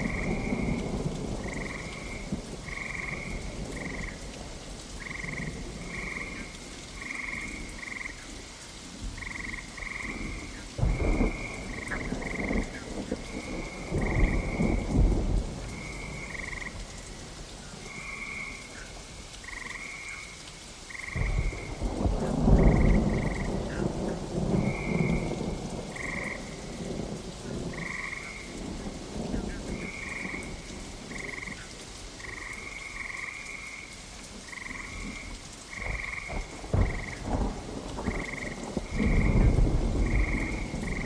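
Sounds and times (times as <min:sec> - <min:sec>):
frogs calling: 0:00.0 - 0:04.3, 0:05.0 - 0:08.5, 0:09.2 - 0:15.0, 0:15.7 - 0:17.2, 0:17.8 - 0:26.9, 0:27.5 - 0:41.0
thunder rumble: 0:00.0 - 0:08.1, 0:09.0 - 0:17.1, 0:21.1 - 0:31.6, 0:34.4 - 0:41.0
steady rain: 0:00.0 - 0:41.0.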